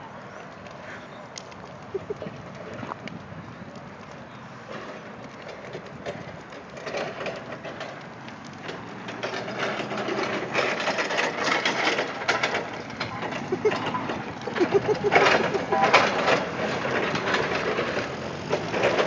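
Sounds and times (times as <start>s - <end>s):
steam hissing and crackling: 0.7s - 19.0s.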